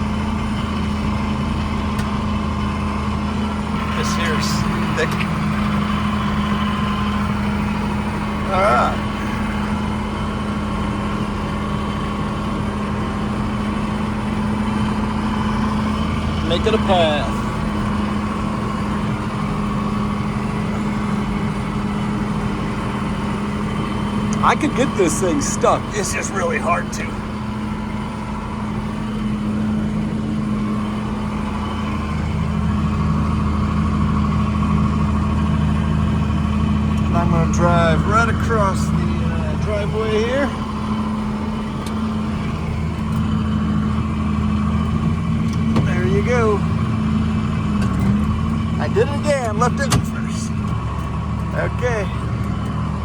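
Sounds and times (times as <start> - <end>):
snow plow pushing snow: 0.0 - 53.0
tractor engine running: 0.0 - 53.0.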